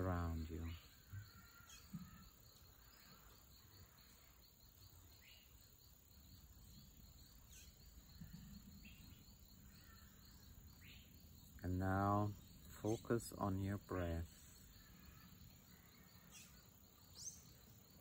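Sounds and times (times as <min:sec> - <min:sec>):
bird chirps: 0:00.0 - 0:04.3, 0:06.6 - 0:18.0
insect chirring: 0:00.0 - 0:18.0.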